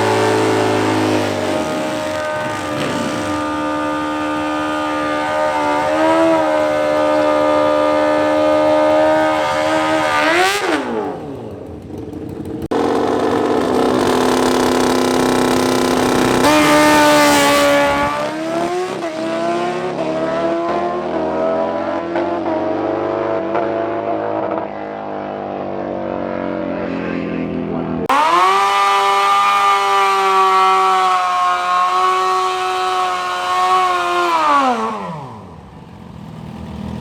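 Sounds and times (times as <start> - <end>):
motorcycle engines revving high: 0.0 - 37.0
motorcycle launching and accelerating: 0.0 - 37.0.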